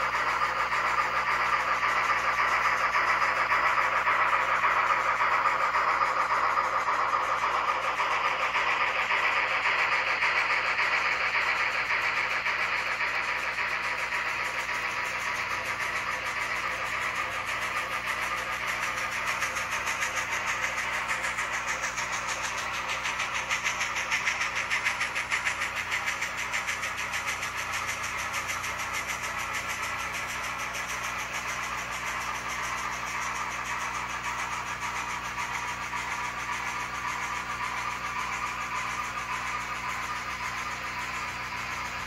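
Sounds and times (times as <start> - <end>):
model train whirring and clicking: 0.0 - 42.0.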